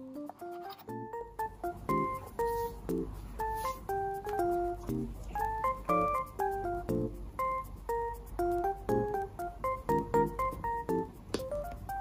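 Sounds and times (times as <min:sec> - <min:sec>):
light melody of single notes: 0:00.0 - 0:12.0.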